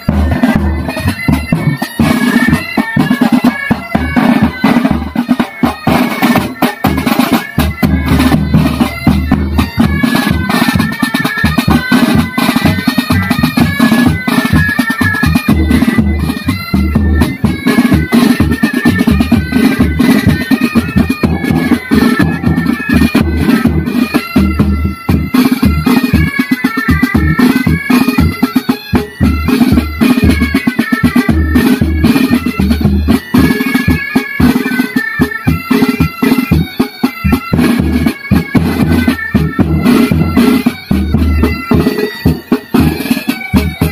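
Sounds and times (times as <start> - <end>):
bagpipes playing melody: 0.0 - 43.9.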